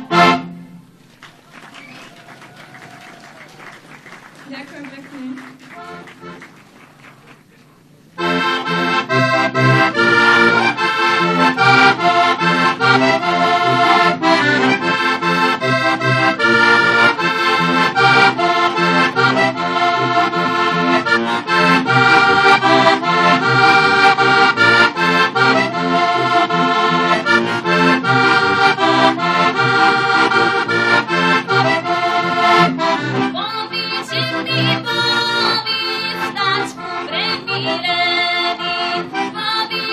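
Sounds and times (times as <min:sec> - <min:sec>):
button accordion folk tune: 0:00.0 - 0:01.6, 0:03.6 - 0:07.5, 0:08.1 - 0:39.9.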